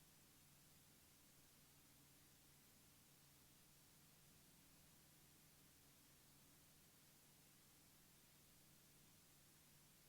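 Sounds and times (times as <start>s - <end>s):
faint low hum and hiss: 0.0s - 10.0s.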